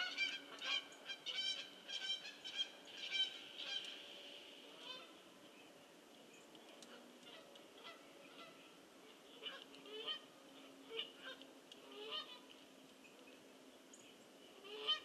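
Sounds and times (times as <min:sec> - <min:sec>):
faint geese honking: 0:00.0 - 0:15.0.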